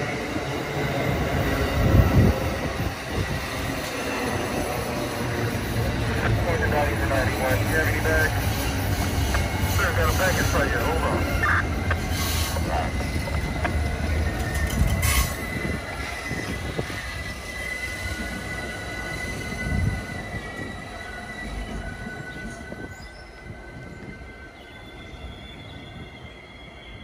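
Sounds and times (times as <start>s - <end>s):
train rumbling: 0.0s - 27.0s
train wheels squealing: 0.0s - 27.0s.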